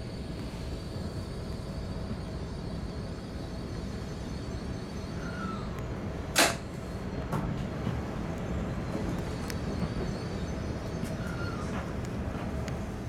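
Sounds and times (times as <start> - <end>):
train rumble from inside: 0.0 - 13.0.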